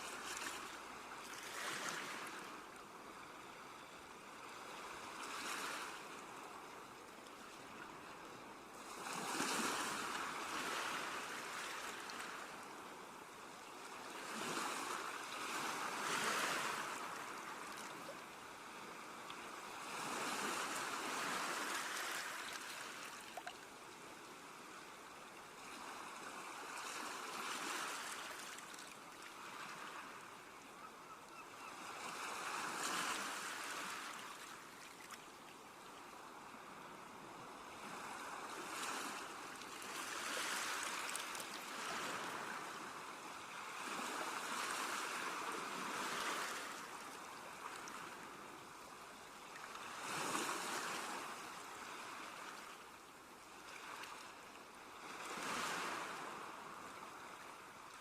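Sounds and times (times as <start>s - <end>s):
sea waves breaking on shore: 0.0s - 30.6s, 31.4s - 58.0s.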